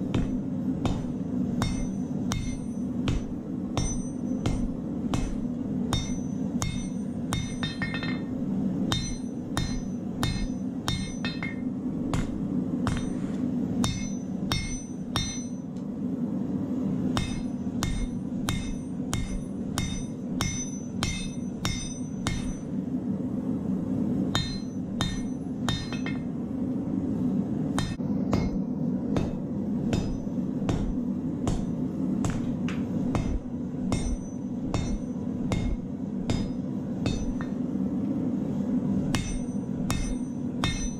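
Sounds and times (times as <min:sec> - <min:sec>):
hammer blows ringing on anvil: 0:00.0 - 0:13.2, 0:13.8 - 0:15.7, 0:17.2 - 0:22.7, 0:24.3 - 0:26.3, 0:27.8 - 0:28.6, 0:29.2 - 0:32.5, 0:33.1 - 0:37.6, 0:39.1 - 0:40.9.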